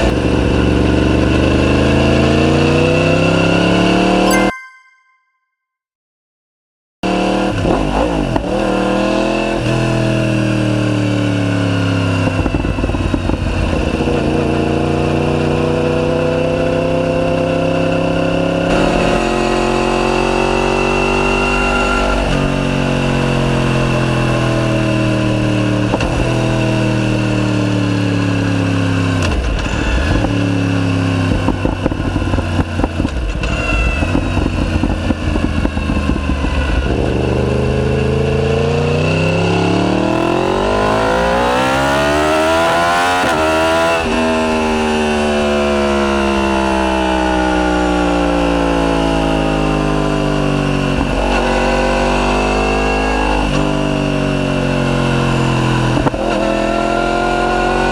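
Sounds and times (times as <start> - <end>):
motorcycle engine accelerating: 0.0 - 4.3, 7.0 - 57.9.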